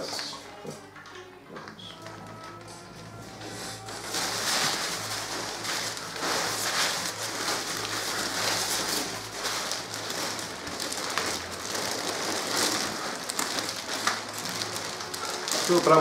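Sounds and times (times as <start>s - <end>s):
paper and plastic bags rustling: 0.0s - 16.0s.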